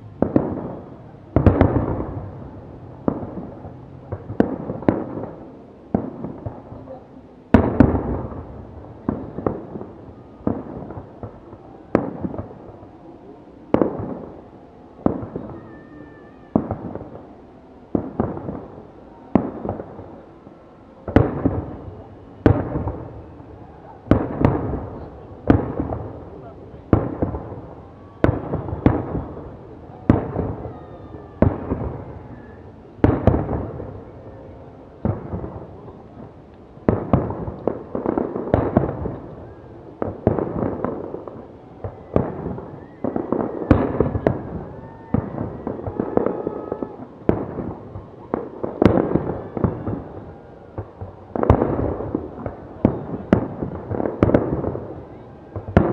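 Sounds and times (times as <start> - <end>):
fireworks bursting with bangs: 0.0 - 55.9
rolling echo: 0.0 - 55.9.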